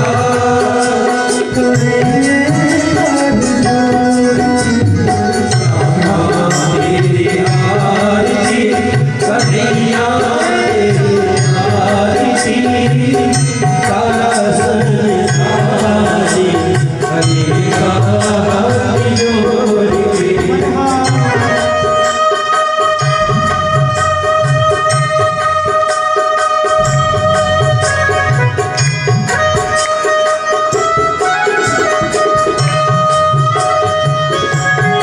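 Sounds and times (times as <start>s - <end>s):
devotional music: 0.0s - 35.0s
hand drum rhythm: 0.0s - 35.0s.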